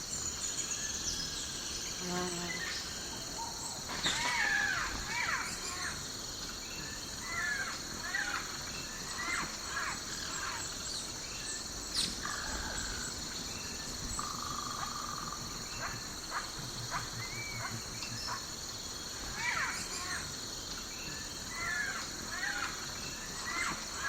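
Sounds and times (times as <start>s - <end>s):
insect drone: 0.0s - 24.0s
bird calls and chirps: 0.1s - 24.0s.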